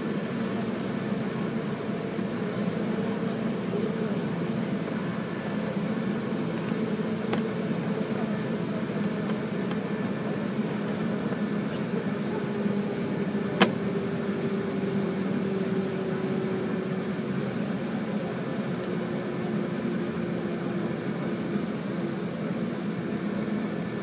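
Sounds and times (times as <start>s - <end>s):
train running rumble: 0.0s - 24.0s.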